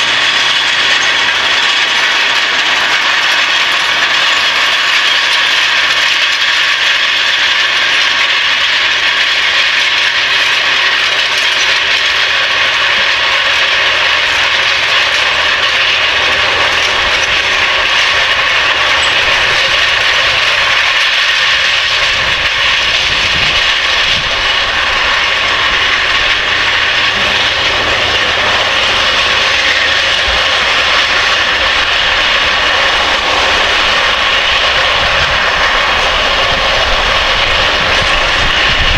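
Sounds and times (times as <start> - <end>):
tractor engine rumble: 0.0 - 38.9
tractor mechanical clatter: 0.0 - 38.9.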